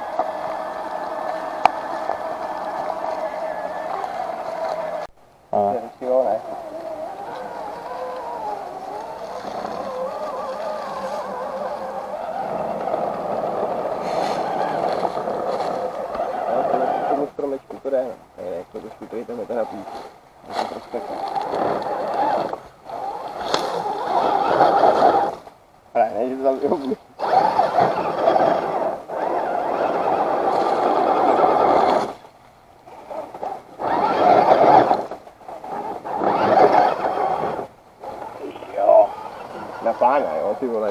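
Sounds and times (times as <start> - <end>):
electric motor and gearbox whining: 0.0 - 5.1, 6.1 - 17.8, 19.1 - 25.5, 26.5 - 32.2, 32.9 - 40.9.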